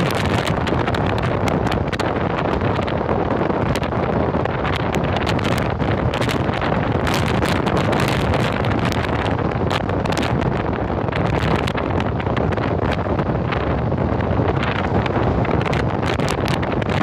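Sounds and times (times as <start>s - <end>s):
vehicle driving on wet road: 0.0s - 17.0s.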